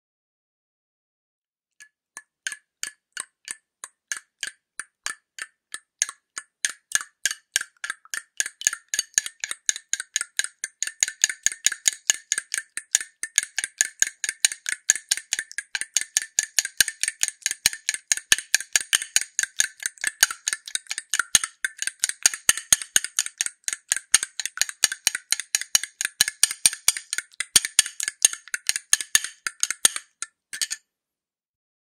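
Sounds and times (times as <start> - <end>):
eggshells clicking together: 2.2 - 30.8.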